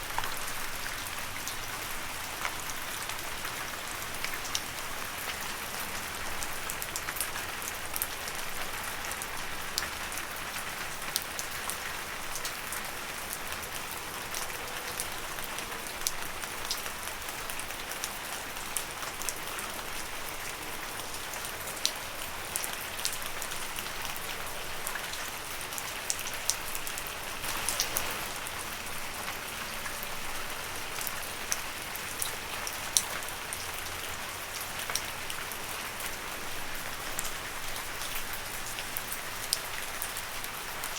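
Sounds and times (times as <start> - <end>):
rain falling on leaves: 0.0 - 40.9.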